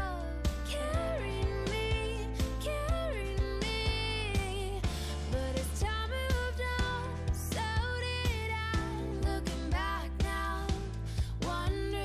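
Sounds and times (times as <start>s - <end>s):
upbeat pop music: 0.0s - 12.0s.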